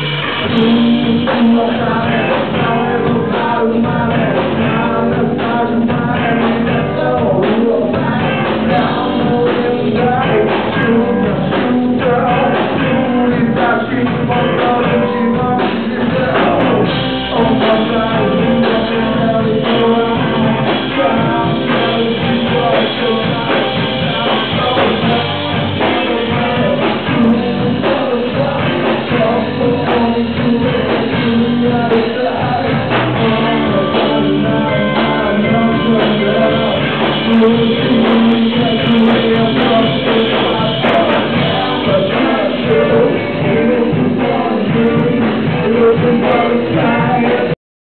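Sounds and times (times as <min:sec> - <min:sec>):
drum kit: 0:00.0 - 0:47.6
electric guitars: 0:00.0 - 0:47.6
man singing: 0:00.0 - 0:47.6.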